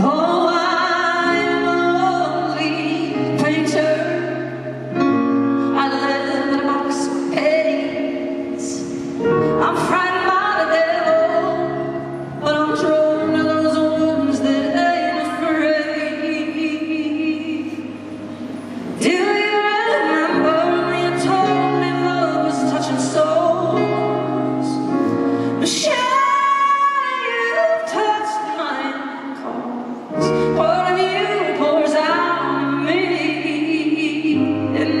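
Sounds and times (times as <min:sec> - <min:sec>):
woman singing a slow ballad: 0:00.0 - 0:35.0.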